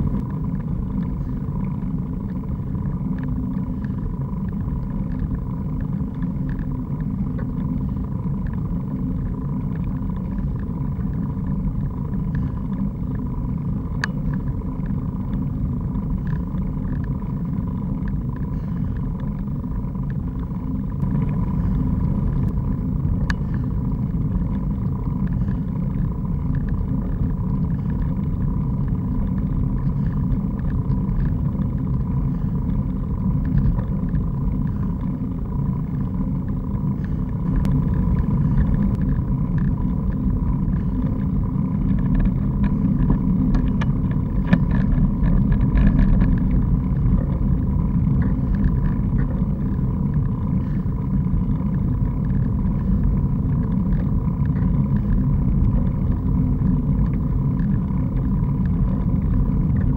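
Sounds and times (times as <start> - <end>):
bicycle tyres on asphalt: 0.0 - 59.9
wind buffeting microphone: 0.0 - 59.9.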